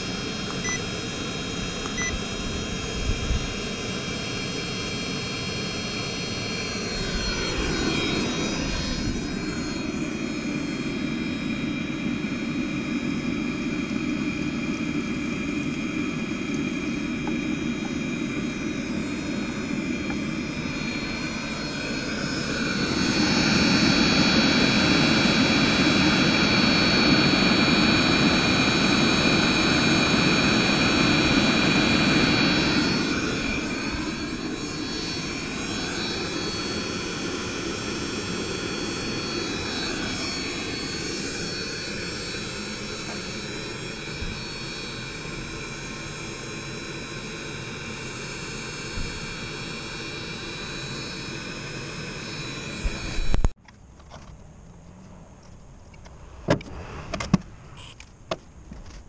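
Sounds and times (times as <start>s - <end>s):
heater rushing roar: 0.0s - 53.6s, 54.8s - 58.9s
heater high whine: 0.0s - 59.0s.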